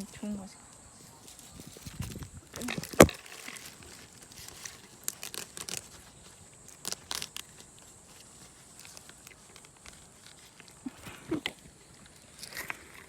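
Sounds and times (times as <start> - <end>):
footsteps crunching dry leaves: 1.2 - 12.9.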